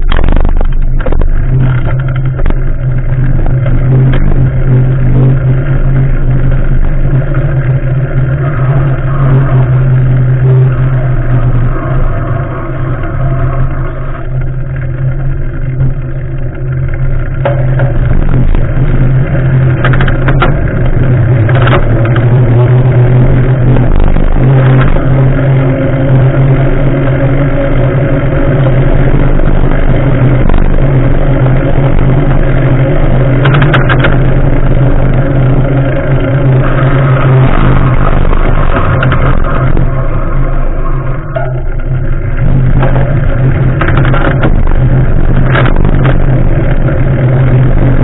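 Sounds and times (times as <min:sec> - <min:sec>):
bicycle rattles: 0:00.0 - 0:48.0
bicycle rolling on asphalt: 0:00.0 - 0:48.0.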